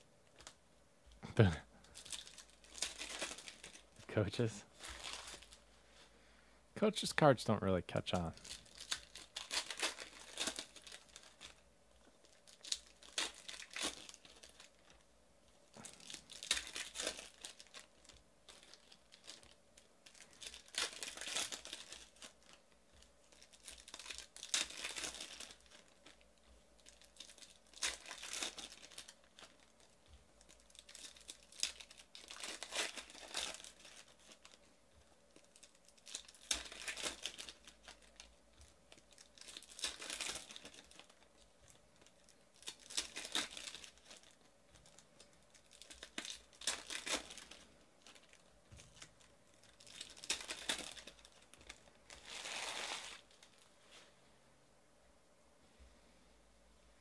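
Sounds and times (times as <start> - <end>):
plastic wrappers crinkling and tearing: 1.4 - 5.7, 8.0 - 54.1.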